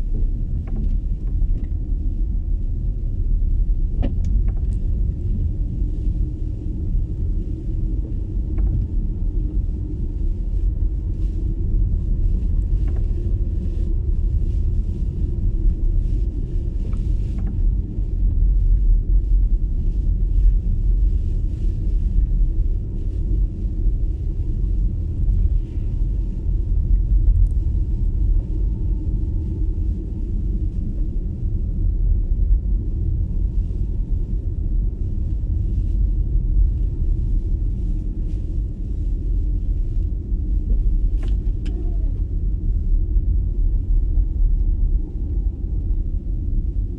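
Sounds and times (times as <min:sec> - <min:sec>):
electric car tyre and road noise: 0:00.0 - 0:46.9.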